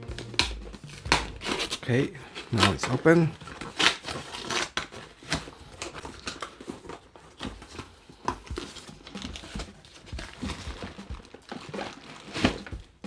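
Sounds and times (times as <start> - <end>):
cardboard box contents rustling: 0.0 - 12.7.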